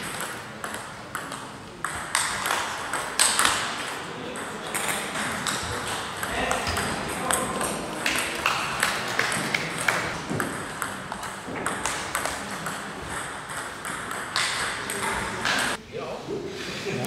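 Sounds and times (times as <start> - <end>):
table tennis ball clicking: 0.1 - 15.8.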